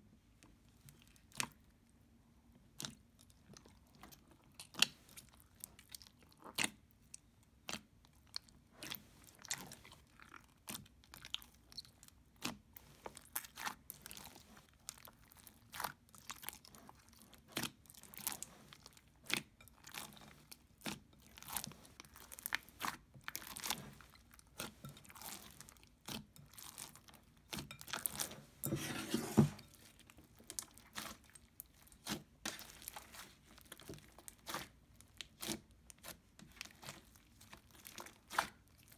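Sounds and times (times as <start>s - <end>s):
slime squishing: 0.3s - 38.9s.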